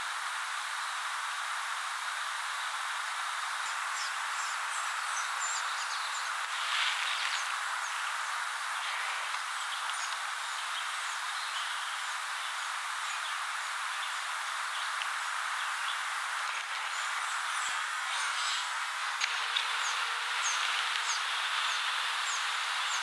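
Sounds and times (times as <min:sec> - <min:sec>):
rustle: 0:00.0 - 0:23.0
steady hiss: 0:00.0 - 0:23.0.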